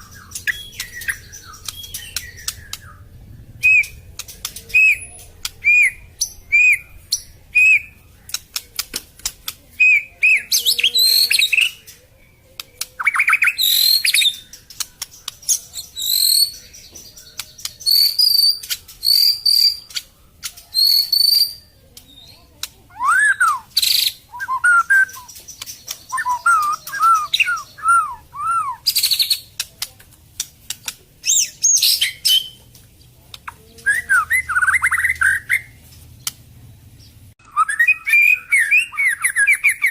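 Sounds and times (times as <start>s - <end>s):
sharp bird clicks: 0.0s - 3.0s, 3.6s - 12.0s, 12.6s - 28.2s, 28.8s - 36.5s
bird singing whistled song: 0.0s - 8.0s, 9.8s - 29.6s, 31.2s - 32.7s, 33.8s - 35.8s, 37.4s - 39.9s.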